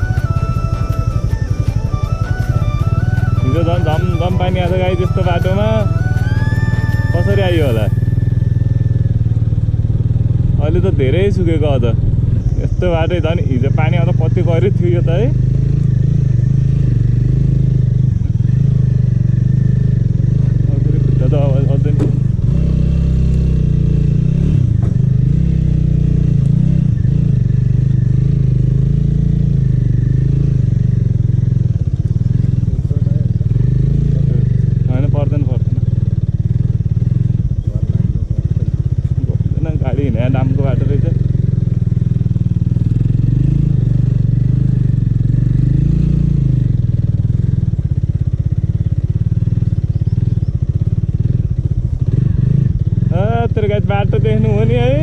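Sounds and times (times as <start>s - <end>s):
small motorbike engine running: 0.0s - 55.0s.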